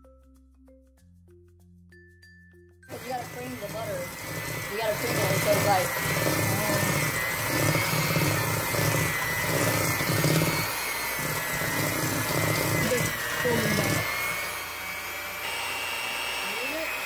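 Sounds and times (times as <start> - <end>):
beaters churning in bowl: 2.9 - 17.0
hand mixer motor whine: 2.9 - 17.0.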